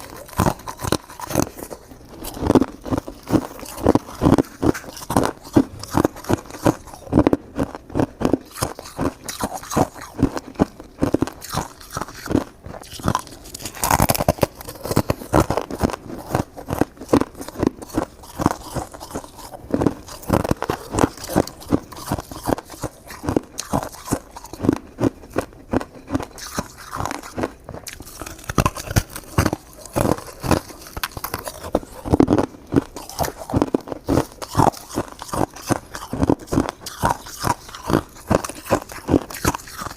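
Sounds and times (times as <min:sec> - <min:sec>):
person crunching shaved ice: 0:00.0 - 0:39.9.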